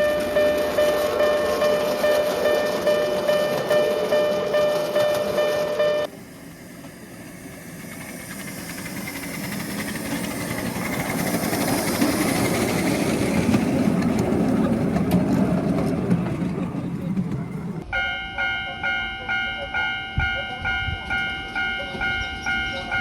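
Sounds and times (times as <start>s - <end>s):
miniature train rumbling on rails: 0.0s - 23.0s.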